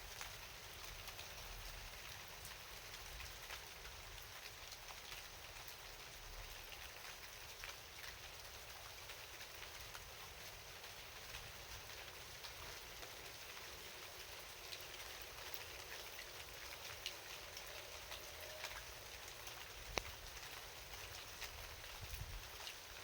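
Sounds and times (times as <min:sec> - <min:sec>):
light rain hissing: 0:00.0 - 0:23.0.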